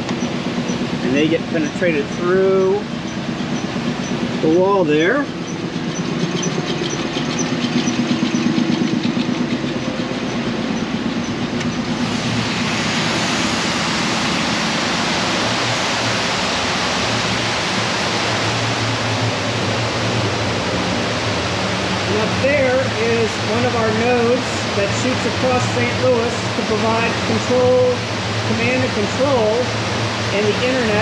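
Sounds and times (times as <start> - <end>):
cooling tower water rushing: 0.0 - 31.0
machinery pulsing hum: 0.0 - 31.0.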